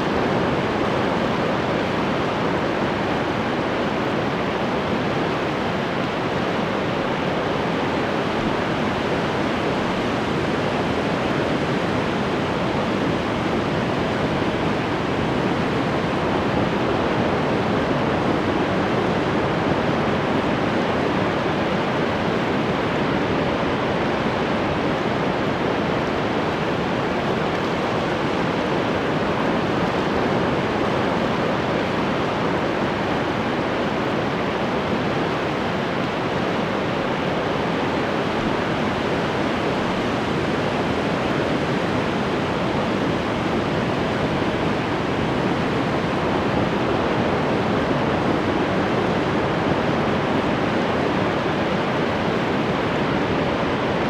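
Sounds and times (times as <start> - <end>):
ocean surf washing on shore: 0.0 - 54.0.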